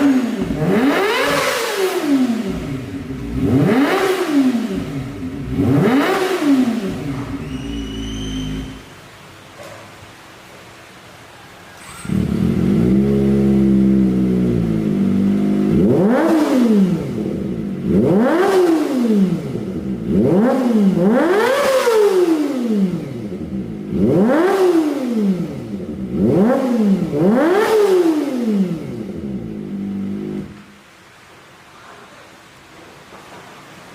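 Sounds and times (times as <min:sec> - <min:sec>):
motorcycle engine revving: 0:00.0 - 0:09.2, 0:11.8 - 0:30.8.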